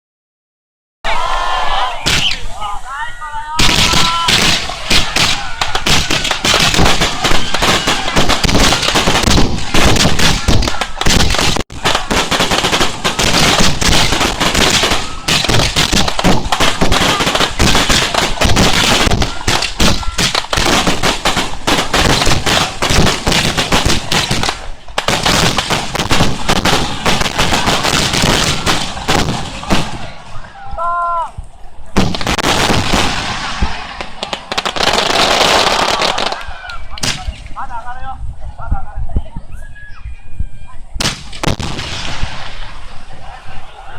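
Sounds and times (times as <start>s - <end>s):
fireworks bursting and crackling: 2.0s - 2.9s, 3.5s - 30.6s, 31.8s - 37.7s, 41.0s - 43.5s.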